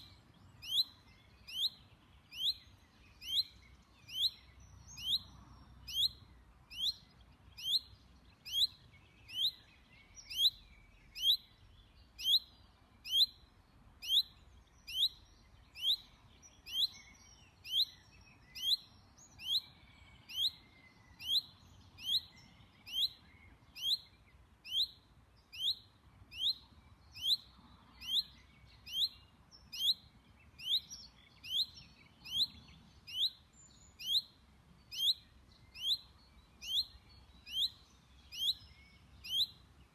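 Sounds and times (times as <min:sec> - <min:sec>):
chaffinch calling: 0:00.0 - 0:39.9.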